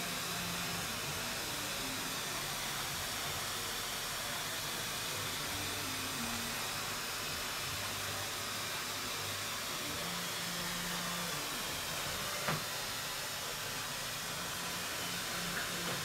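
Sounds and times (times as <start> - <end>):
steady hissing noise: 0.0 - 16.0.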